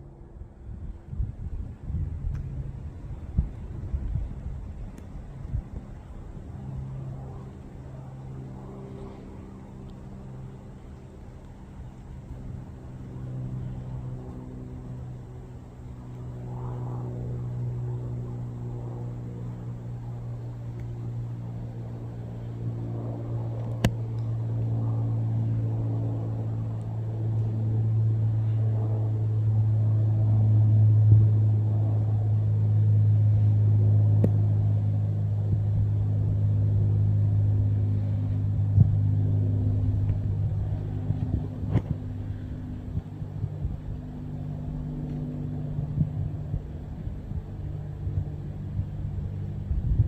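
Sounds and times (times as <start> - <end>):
propeller plane engine drone: 0.0 - 50.0.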